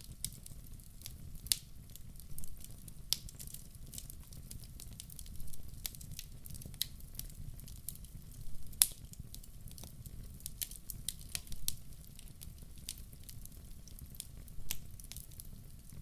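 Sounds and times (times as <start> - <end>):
low steady fire rumble: 0.0 - 16.0
wood fire crackling: 0.0 - 16.0.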